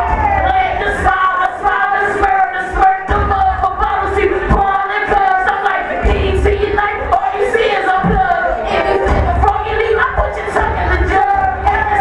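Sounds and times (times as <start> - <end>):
crowd noise: 0.0 - 12.0
rapping over a beat: 0.0 - 12.0.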